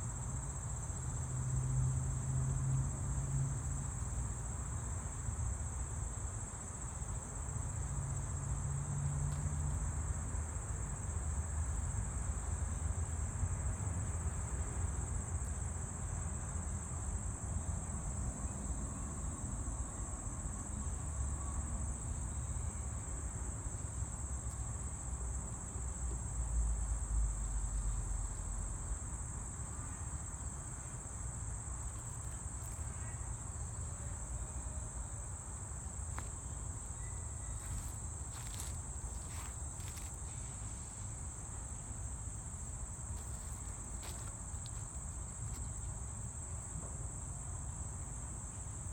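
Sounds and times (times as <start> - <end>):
insect chorus drone: 0.0 - 48.9.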